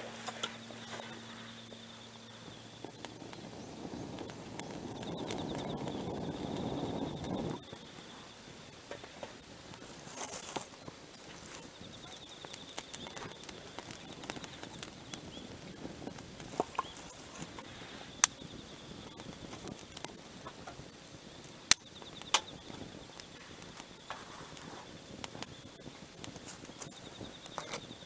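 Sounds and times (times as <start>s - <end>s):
wood fire crackling: 0.0s - 28.0s
sharp pops of fire: 0.2s - 28.0s.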